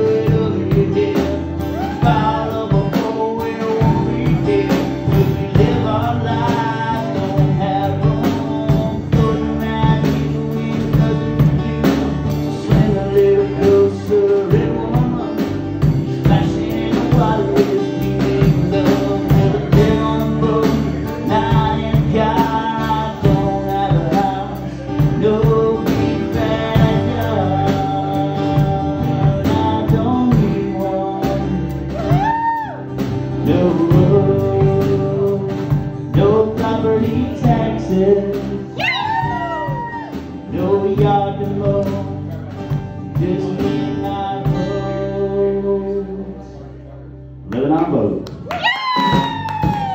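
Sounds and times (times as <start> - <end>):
strummed acoustic guitar: 0.0 - 47.3
man singing: 0.0 - 48.2.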